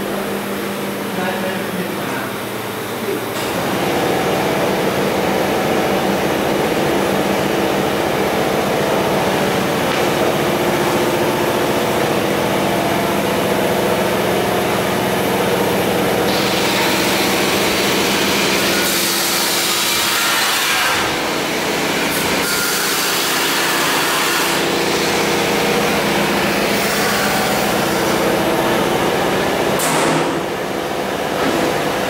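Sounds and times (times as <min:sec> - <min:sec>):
water chiller humming: 0:00.0 - 0:32.0.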